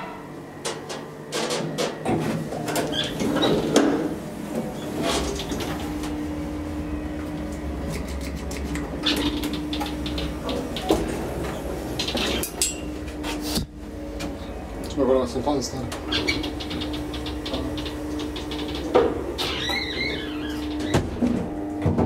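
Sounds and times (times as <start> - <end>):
elevator humming: 0.0 - 22.0.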